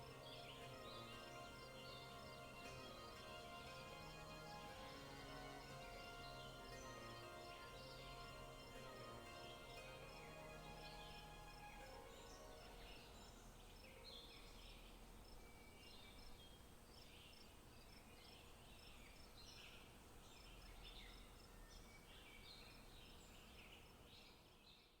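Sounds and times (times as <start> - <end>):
low hiss: 0.0 - 24.9
birds chirping: 0.0 - 25.0.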